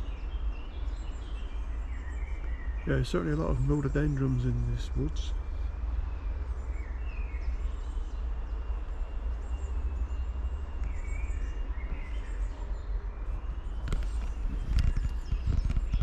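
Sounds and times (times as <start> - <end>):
bird chirps: 0.0 - 16.0.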